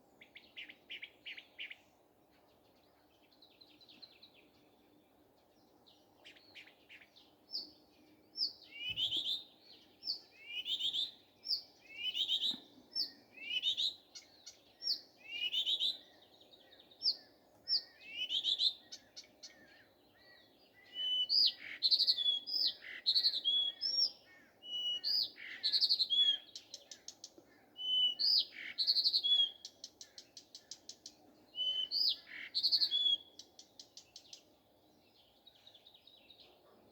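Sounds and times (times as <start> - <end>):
nightingale singing: 2.5 - 36.6.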